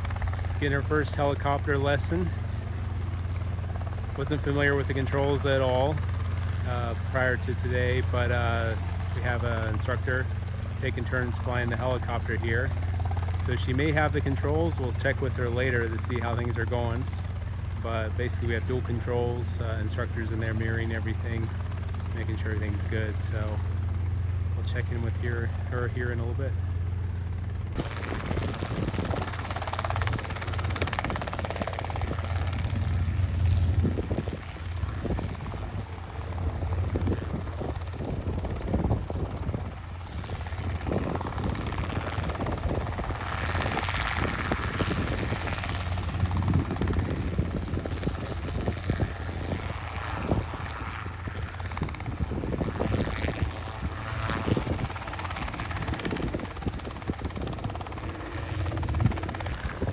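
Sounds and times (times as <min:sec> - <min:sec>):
helicopter engine drone: 0:00.0 - 0:59.9
rotor blades chopping: 0:00.0 - 0:59.9.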